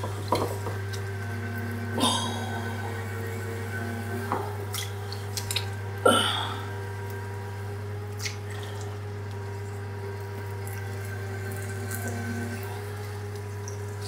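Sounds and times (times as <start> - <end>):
potter's wheel motor hum: 0.0 - 14.0.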